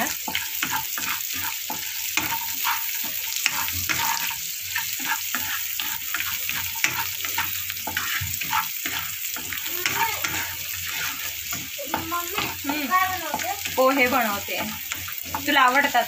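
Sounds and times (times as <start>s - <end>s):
food sizzling in hot oil: 0.0s - 16.0s
wooden spatula scraping pan: 0.0s - 16.0s.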